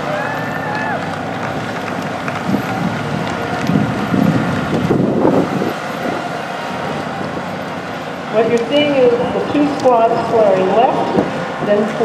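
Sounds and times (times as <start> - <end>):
motorcycles running at low speed: 0.0 - 12.0
wind buffeting microphone: 0.0 - 12.0.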